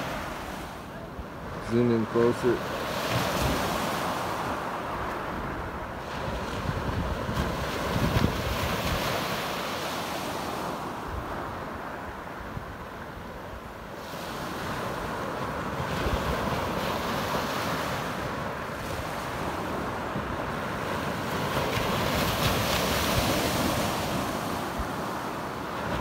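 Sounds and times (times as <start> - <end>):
waves washing up pebble beach: 1.5 - 11.9, 13.9 - 26.0
wind buffeting microphone: 2.9 - 26.0.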